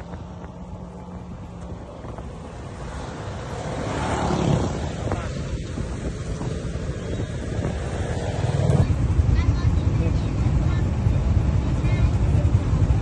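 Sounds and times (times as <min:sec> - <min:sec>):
moving vehicle rumble: 0:00.0 - 0:13.0
wind buffeting microphone: 0:00.0 - 0:13.0.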